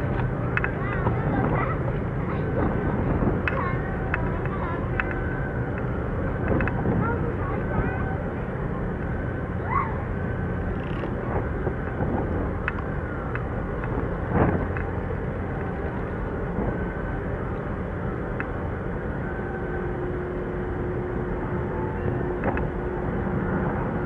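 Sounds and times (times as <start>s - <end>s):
ship diesel engines droning: 0.0s - 24.0s.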